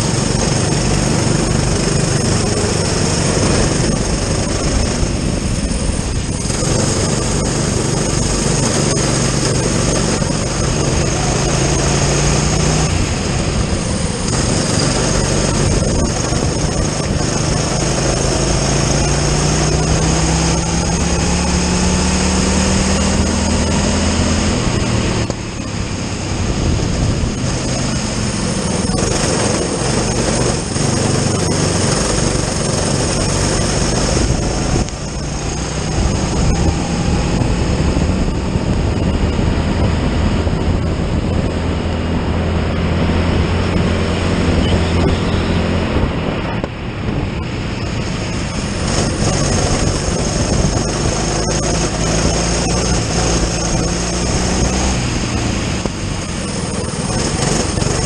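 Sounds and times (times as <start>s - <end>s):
kart engine at full throttle: 0.0s - 58.0s.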